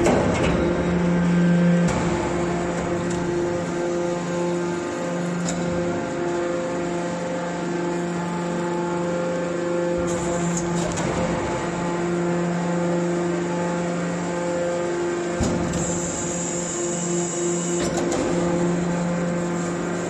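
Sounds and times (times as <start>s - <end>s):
hydraulic pump humming: 0.0s - 20.0s.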